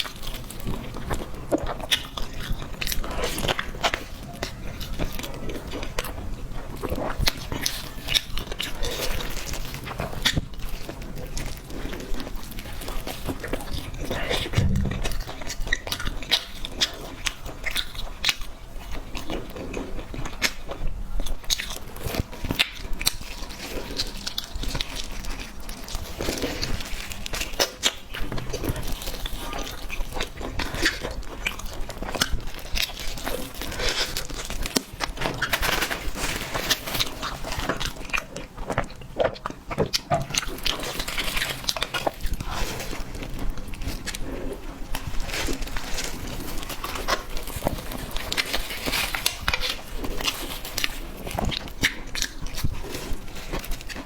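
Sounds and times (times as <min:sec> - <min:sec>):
person chewing cake: 0:00.0 - 0:54.0.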